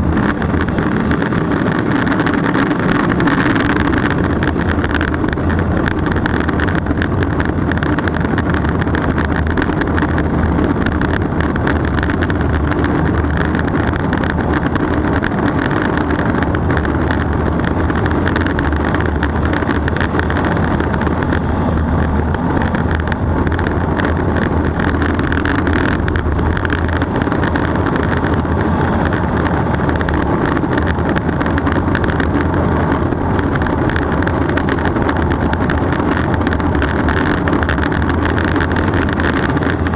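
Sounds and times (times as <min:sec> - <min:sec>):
wheels rolling fast on asphalt: 0:00.0 - 0:39.9
wind rushing over microphone: 0:00.0 - 0:39.9.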